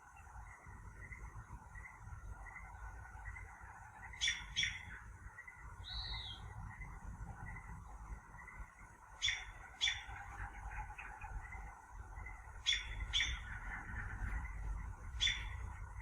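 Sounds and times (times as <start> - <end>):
sharp bird chirps: 0.0 - 7.7, 8.3 - 16.0
outdoor background noise: 0.0 - 16.0.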